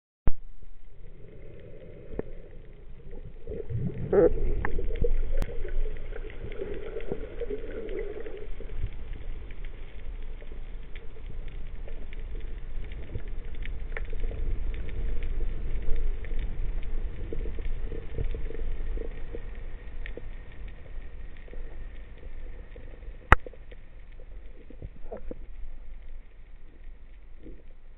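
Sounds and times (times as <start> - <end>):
low underwater rumble: 0.3 - 27.9
small clicks and crackles: 0.7 - 27.9
water burbling: 0.7 - 27.9.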